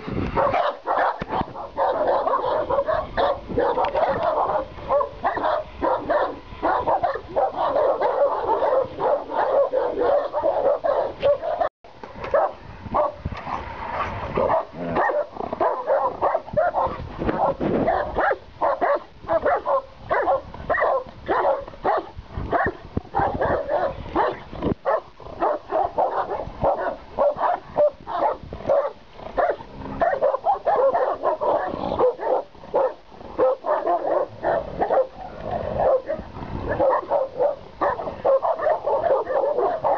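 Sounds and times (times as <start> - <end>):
dogs barking: 0.4 - 39.9.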